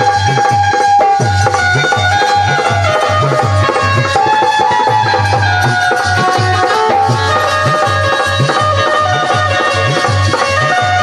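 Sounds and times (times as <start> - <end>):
folk music: 0.0 - 11.0
steady drumbeat: 0.0 - 11.0.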